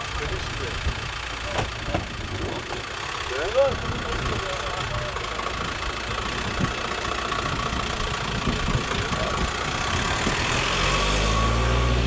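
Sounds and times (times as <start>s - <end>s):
constant background rush: 0.0s - 10.6s
deeper engine hum: 0.0s - 12.0s
vehicle engine running: 0.0s - 12.0s.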